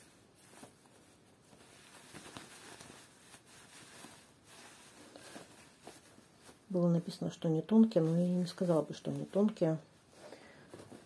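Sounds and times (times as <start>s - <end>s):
fabric rustling in hands: 0.0s - 11.0s.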